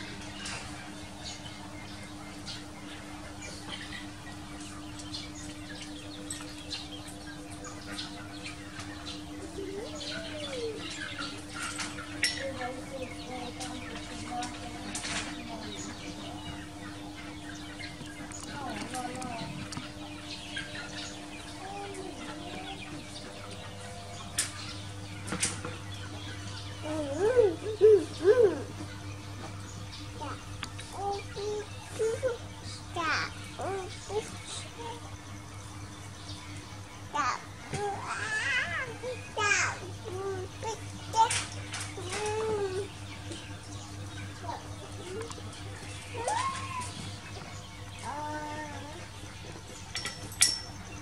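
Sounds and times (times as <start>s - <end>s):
small birds chirping: 0.0s - 51.0s
steady low hum: 0.0s - 51.0s.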